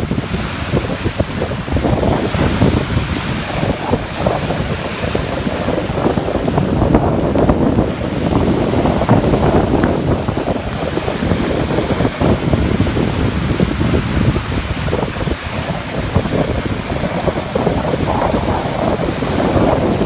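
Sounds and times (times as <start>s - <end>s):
waves washing and splashing: 0.0s - 20.0s
wind rumbling on microphone: 0.0s - 20.0s.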